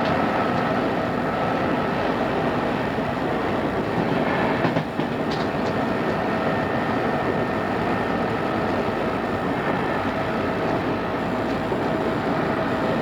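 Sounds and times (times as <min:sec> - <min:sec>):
rumble of train wheels: 0:00.0 - 0:13.0.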